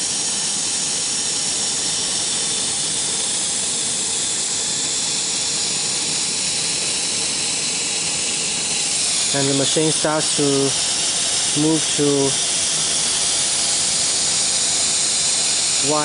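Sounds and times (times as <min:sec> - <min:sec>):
machinery high hiss: 0:00.0 - 0:16.0.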